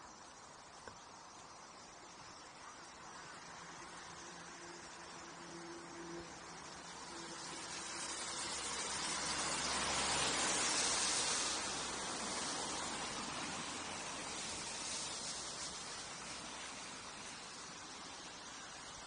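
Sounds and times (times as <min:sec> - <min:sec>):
tyre hiss on wet road: 0:00.0 - 0:19.0.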